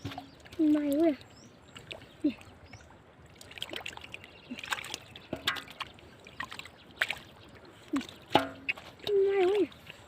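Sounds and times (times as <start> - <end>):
floodwater splashing: 0.0 - 10.0.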